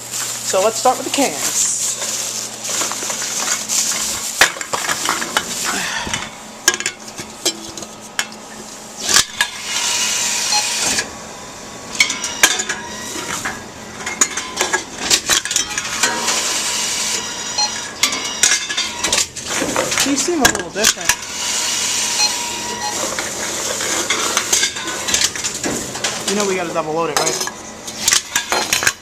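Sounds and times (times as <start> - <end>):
vending machine running: 0.0 - 29.0.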